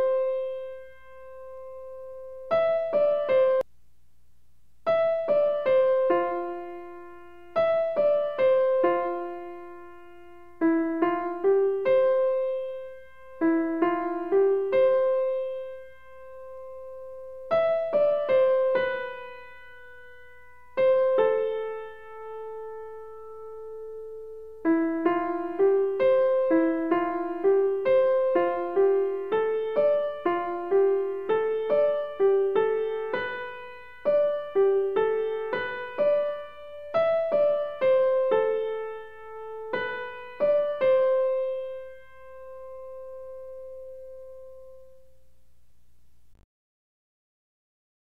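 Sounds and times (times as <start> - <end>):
gentle solo piano: 0.0 - 3.7, 4.9 - 45.2.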